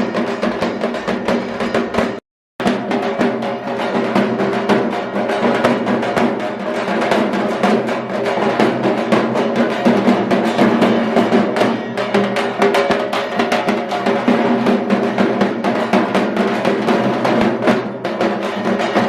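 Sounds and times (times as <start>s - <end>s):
fast dense drumming: 0.0s - 19.0s.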